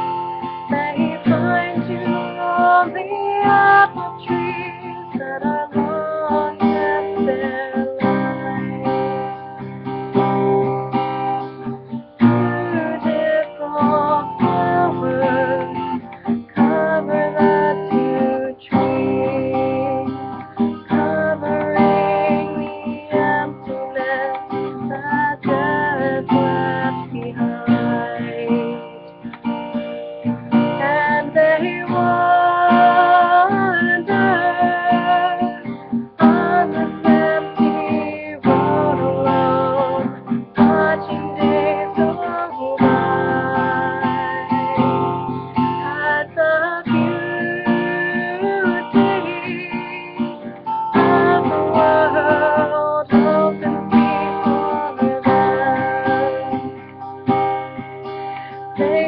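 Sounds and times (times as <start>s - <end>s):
acoustic guitar strumming: 0.0s - 59.0s
person singing: 0.0s - 59.0s.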